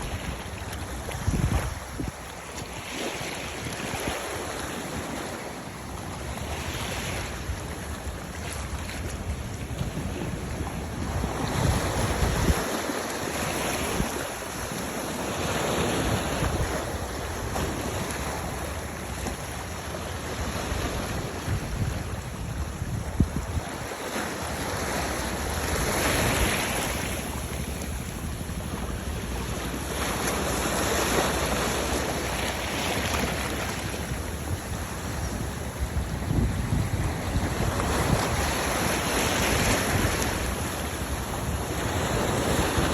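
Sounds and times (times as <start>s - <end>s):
wind rumbling on microphone: 0.0s - 5.4s, 6.2s - 42.9s
sea waves washing in: 0.0s - 42.9s.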